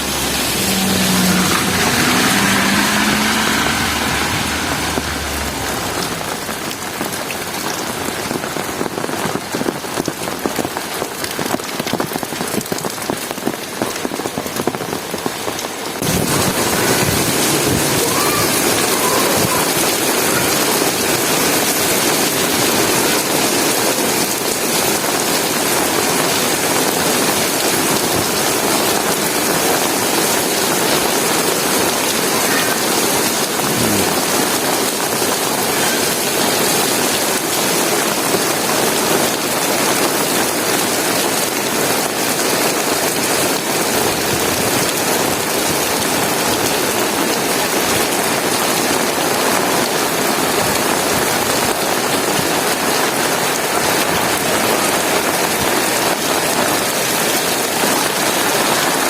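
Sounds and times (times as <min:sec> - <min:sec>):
heavy rain on hard surfaces: 0:00.0 - 0:59.0.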